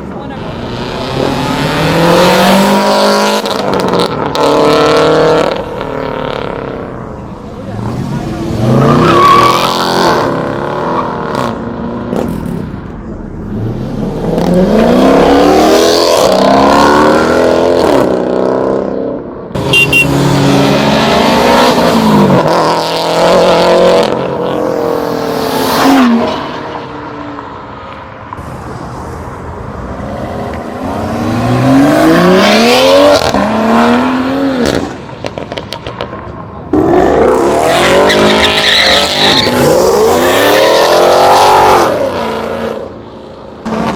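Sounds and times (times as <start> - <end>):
cars accelerating hard: 0.0 - 43.9.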